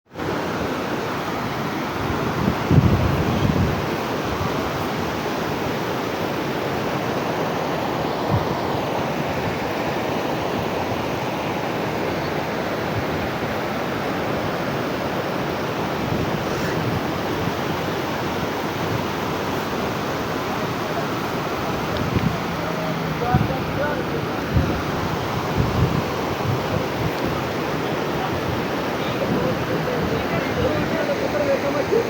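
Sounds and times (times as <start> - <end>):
floodwater rushing: 0.1 - 32.0.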